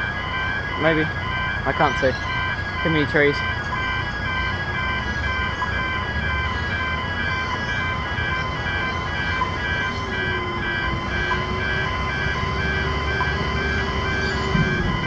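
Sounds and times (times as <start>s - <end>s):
crossing gate alarm beeping: 0.0s - 15.0s
electronic crossing bells ticking: 0.0s - 15.0s
traffic rumbling: 0.0s - 15.0s.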